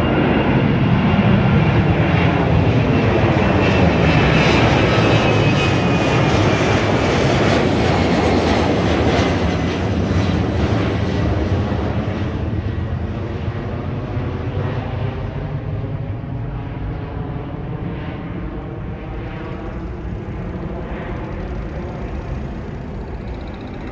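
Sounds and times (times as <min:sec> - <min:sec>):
airliner engine noise: 0:00.0 - 0:23.9.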